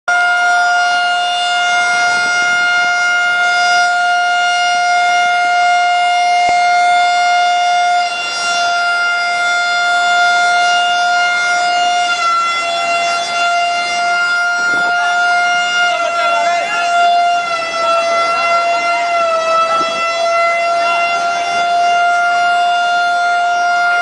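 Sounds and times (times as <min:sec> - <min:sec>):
alarm siren steady tone: 0:00.1 - 0:24.0.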